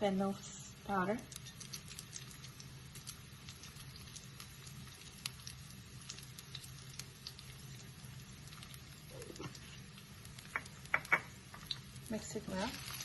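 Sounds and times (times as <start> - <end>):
frying in a pan: 0.0 - 13.0.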